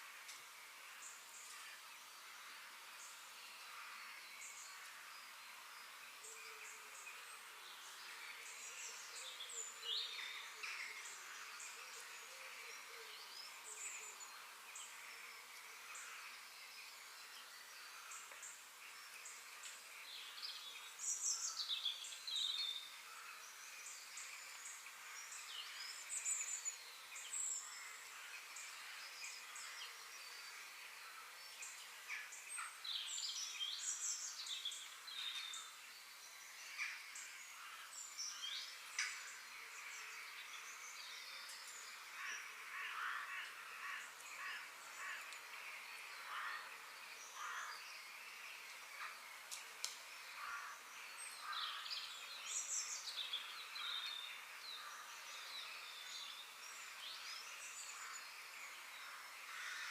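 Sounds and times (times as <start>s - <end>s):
steady background hiss: 0.0s - 59.9s
birds singing and chirping: 1.0s - 59.9s.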